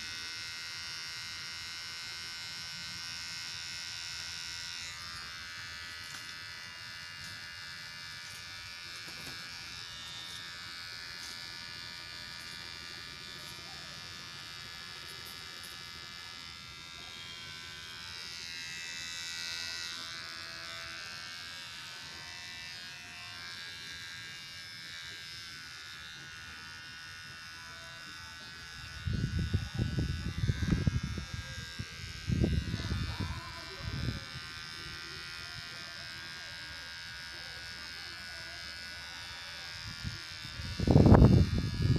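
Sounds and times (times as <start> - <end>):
beard trimmer buzzing: 0.0 - 41.9.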